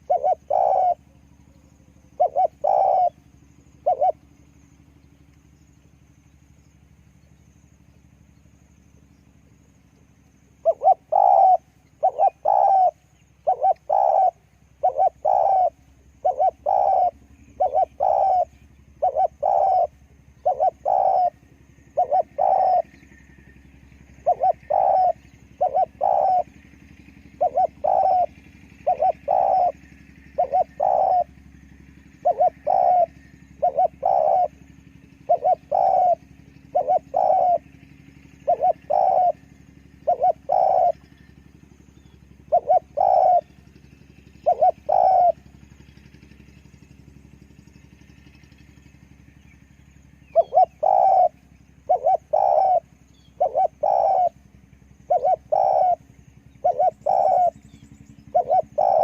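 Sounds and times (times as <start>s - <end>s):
dove cooing: 0.0s - 5.2s, 10.6s - 49.2s, 50.1s - 59.0s.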